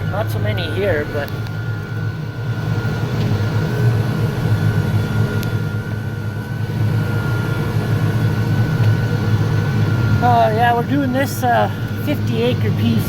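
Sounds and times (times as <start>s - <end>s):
high whine: 0.0s - 13.0s
tractor engine drone: 0.0s - 13.0s.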